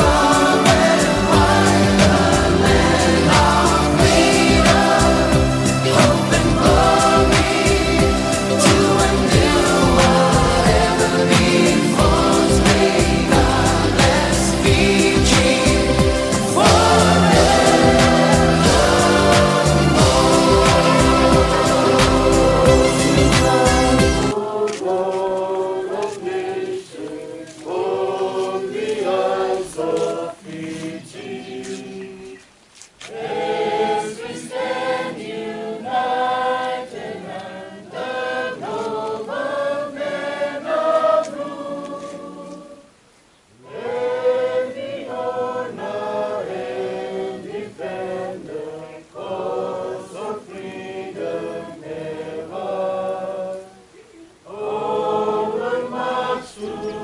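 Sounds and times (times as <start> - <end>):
group singing unaccompanied: 0.0 - 32.4, 33.0 - 57.0.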